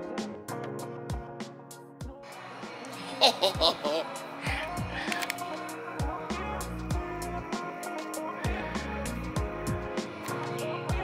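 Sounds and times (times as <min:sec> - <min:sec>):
electronic music with kick drums: 0:00.0 - 0:02.8, 0:03.4 - 0:11.0.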